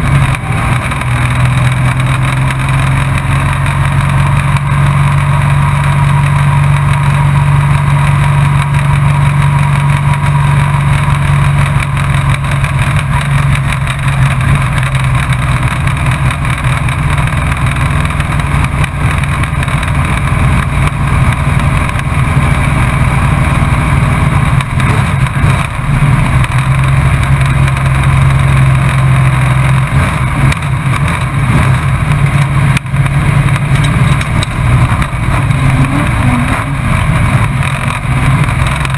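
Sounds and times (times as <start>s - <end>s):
race truck engine running: 0.0s - 38.9s.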